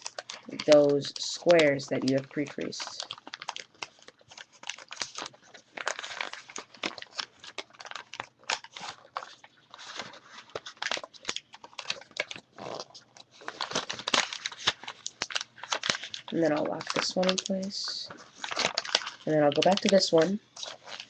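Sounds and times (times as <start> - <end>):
paper crinkling and crackling: 0.0 - 21.0.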